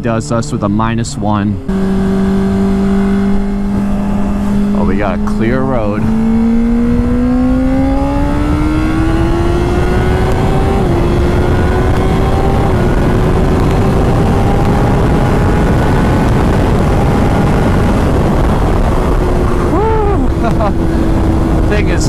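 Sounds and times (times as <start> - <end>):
motorcycle engine accelerating: 0.0 - 22.0
wind rush on microphone: 1.6 - 22.0.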